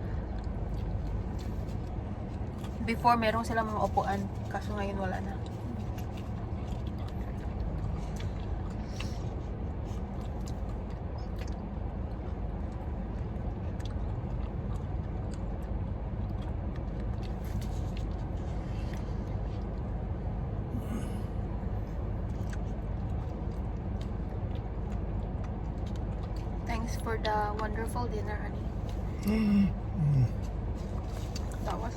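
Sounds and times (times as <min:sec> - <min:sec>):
car rumbling: 0:00.0 - 0:31.9
eating sounds: 0:00.0 - 0:31.9.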